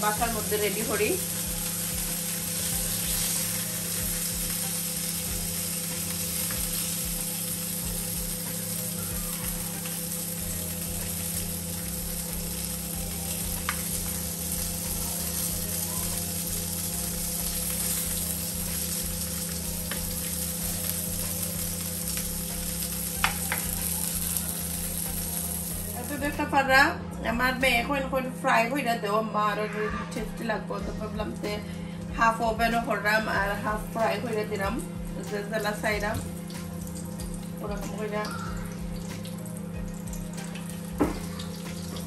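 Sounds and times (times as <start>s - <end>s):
food sizzling in a frying pan: 0.0s - 26.4s, 32.6s - 42.0s.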